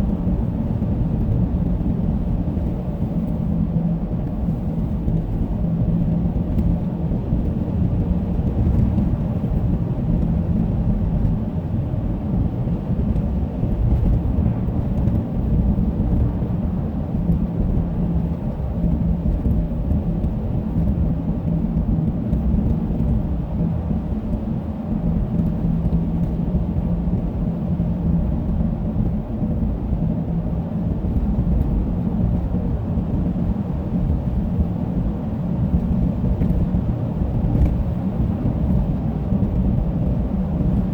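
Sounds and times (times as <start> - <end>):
low road rumble inside car: 0.0 - 40.9.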